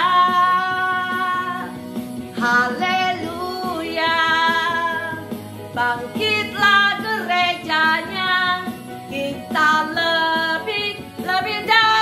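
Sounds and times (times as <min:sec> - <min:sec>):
backing music: 0:00.0 - 0:12.0
woman singing a praise song: 0:00.0 - 0:12.0.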